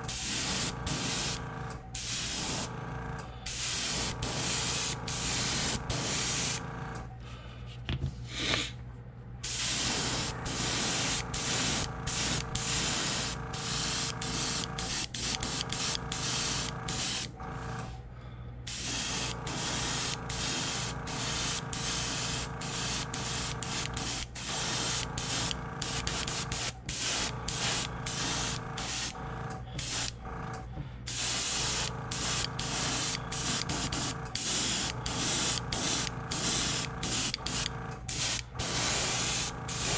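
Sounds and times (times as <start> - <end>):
airbrush hissing: 0.1 - 1.4, 2.0 - 2.7, 3.5 - 6.6, 9.4 - 17.3, 18.7 - 29.2, 29.8 - 30.1, 31.1 - 39.9.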